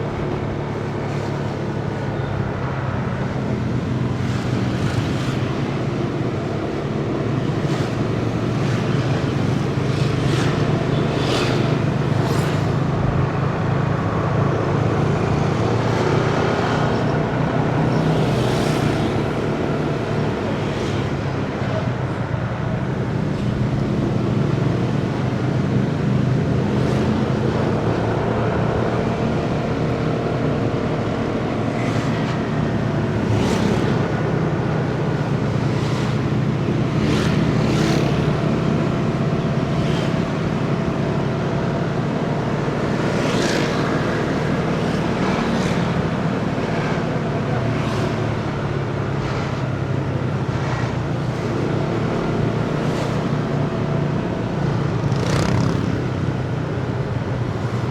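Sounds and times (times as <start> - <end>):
road and traffic noise: 0.0 - 57.9.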